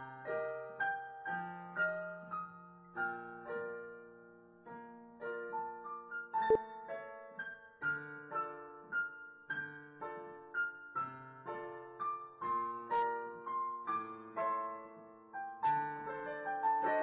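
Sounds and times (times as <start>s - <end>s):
digital piano melody: 0.0s - 17.0s.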